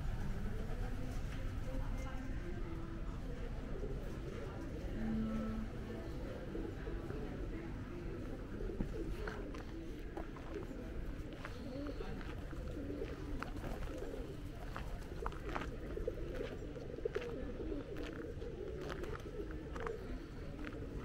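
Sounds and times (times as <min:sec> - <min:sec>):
pigeons cooing: 0:03.4 - 0:21.0.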